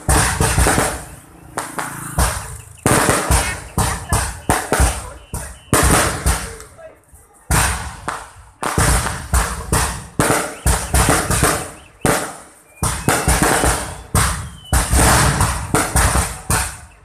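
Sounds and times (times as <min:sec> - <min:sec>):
firework shell bursts: 0:00.0 - 0:06.7, 0:07.5 - 0:17.0.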